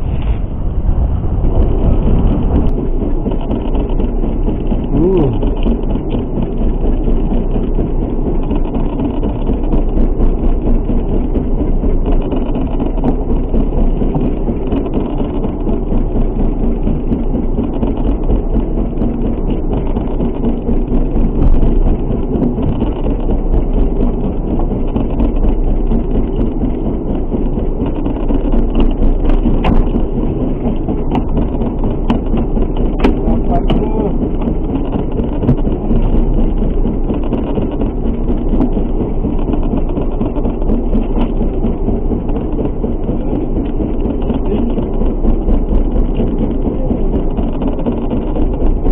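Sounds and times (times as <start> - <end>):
boat engine rumble: 0.0 - 48.9
wind: 0.0 - 48.9.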